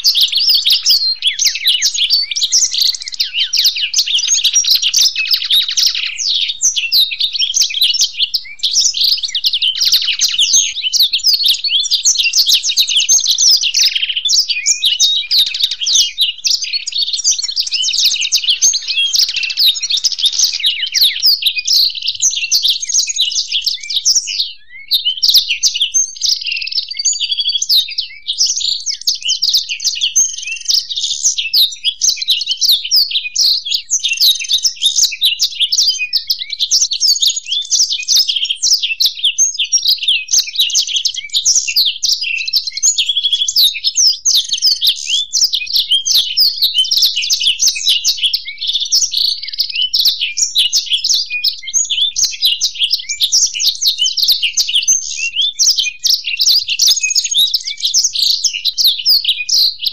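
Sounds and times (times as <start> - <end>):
birds twittering trills: 0.0 - 59.9.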